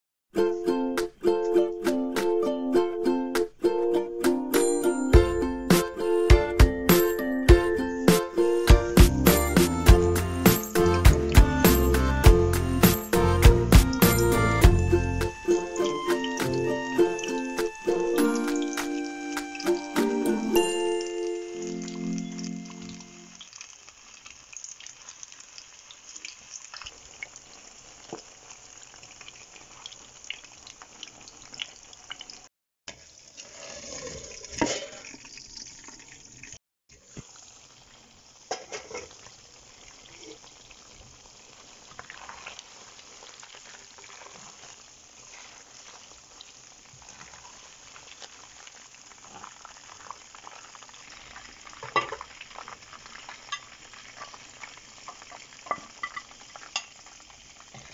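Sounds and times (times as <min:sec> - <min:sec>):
chicken frying in hot oil: 0:07.1 - 0:57.9.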